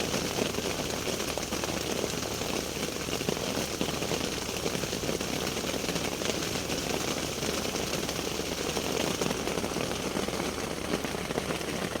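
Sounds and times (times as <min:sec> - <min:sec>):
rain pattering on a tent: 0:00.0 - 0:12.0.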